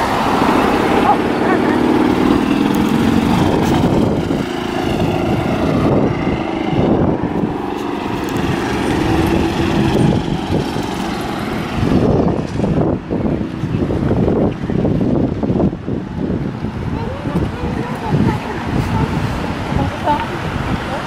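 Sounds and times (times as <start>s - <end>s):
engine droning: 0.0s - 21.0s
wind rumbling on microphone: 0.0s - 21.0s.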